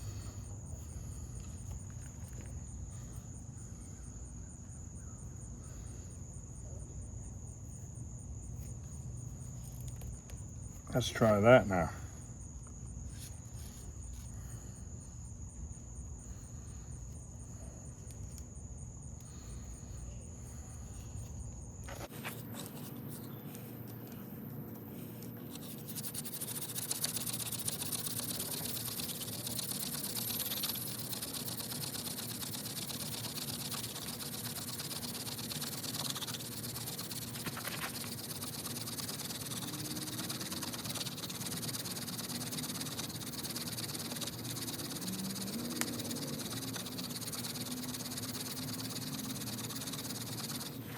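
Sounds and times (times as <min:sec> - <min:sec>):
insect high trill: 0:00.0 - 0:24.4, 0:25.2 - 0:50.9
insect buzzing chorus: 0:00.0 - 0:50.9.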